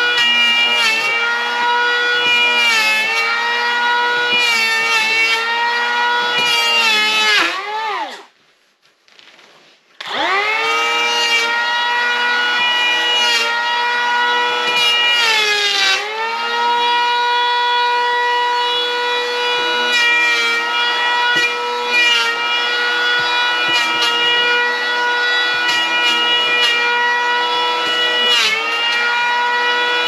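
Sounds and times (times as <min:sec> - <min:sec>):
electric hand planer whining: 0:00.0 - 0:08.2, 0:10.0 - 0:30.0.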